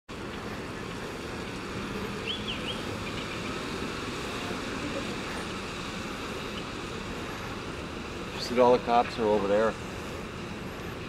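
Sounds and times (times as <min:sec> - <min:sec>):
outdoor rumble and hiss: 0:00.1 - 0:11.0.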